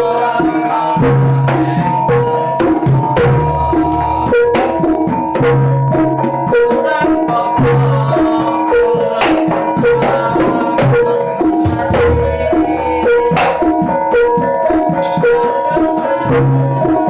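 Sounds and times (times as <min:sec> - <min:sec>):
hand drums: 0:00.0 - 0:17.0
pitched metallic percussion melody: 0:00.0 - 0:17.0.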